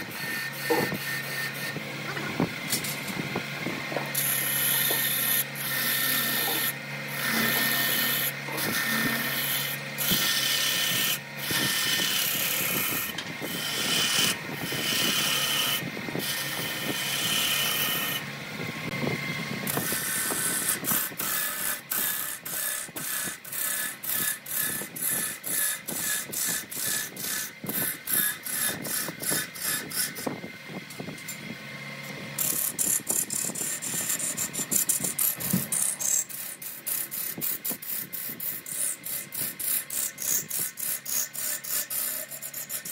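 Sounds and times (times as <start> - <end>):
gouge cutting wood on lathe: 0.0 - 30.4, 31.6 - 42.9.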